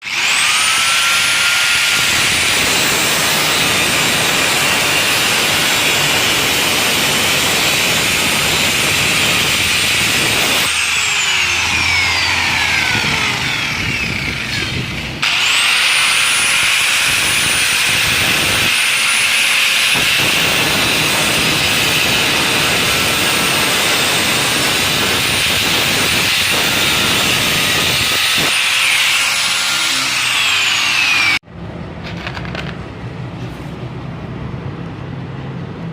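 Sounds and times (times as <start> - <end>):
angle grinder whining on steel: 0.0 - 31.4.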